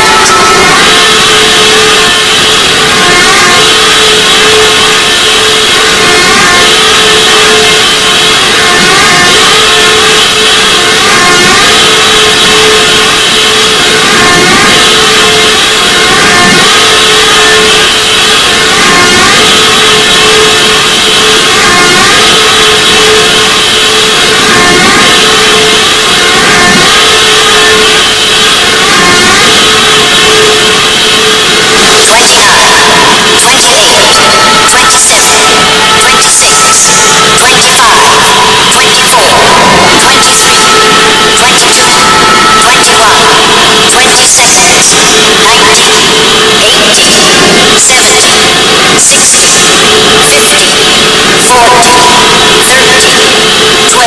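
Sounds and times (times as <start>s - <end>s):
harsh distorted noise warbling: 0.0s - 54.0s
shrill noise band: 0.0s - 54.0s
steady drone: 0.0s - 54.0s.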